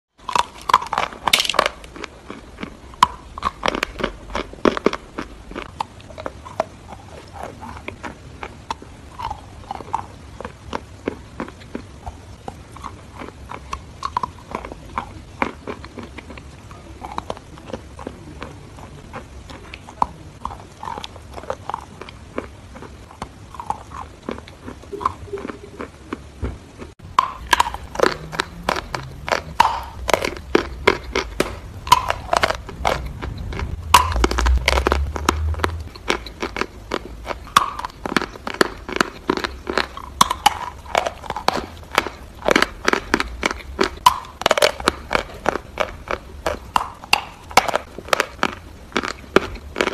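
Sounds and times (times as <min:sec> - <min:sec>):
crunchy chewing: 0:00.1 - 0:49.9.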